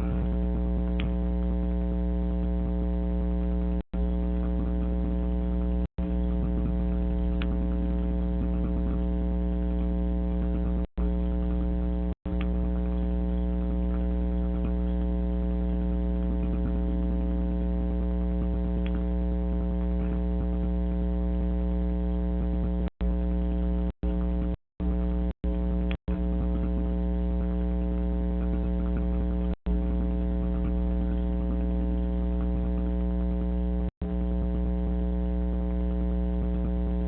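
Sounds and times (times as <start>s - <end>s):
low buzzing hum: 0.0s - 37.0s.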